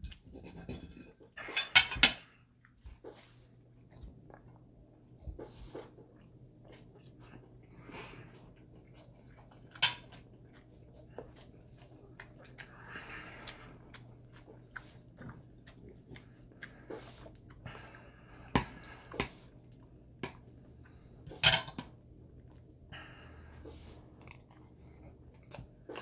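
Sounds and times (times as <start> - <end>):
faint low hum: 0.0 - 26.0
chewing and wet mouth noises: 2.2 - 26.0.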